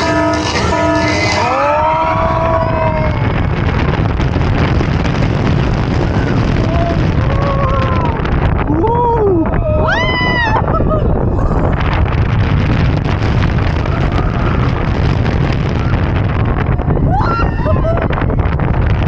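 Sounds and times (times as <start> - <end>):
rush of wind and track noise: 0.0 - 19.0.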